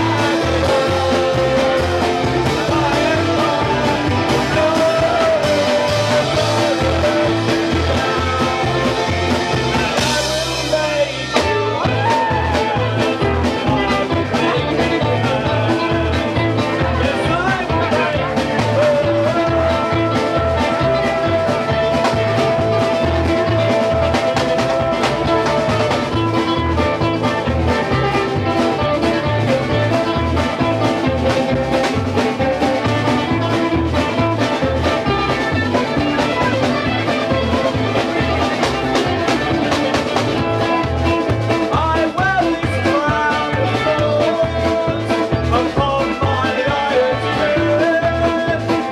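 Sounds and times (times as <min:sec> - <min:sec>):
driving drum beat: 0:00.0 - 0:48.9
hollow-body electric guitar: 0:00.0 - 0:48.9
upright double bass: 0:00.0 - 0:48.9.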